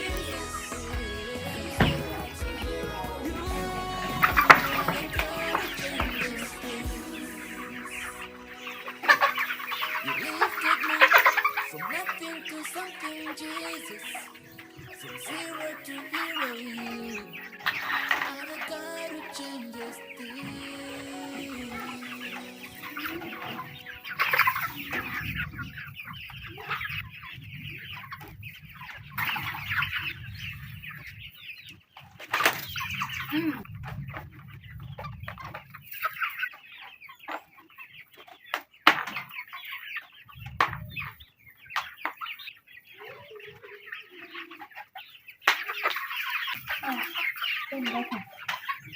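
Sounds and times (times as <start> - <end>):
chickens clucking and chattering: 0.0 - 48.9.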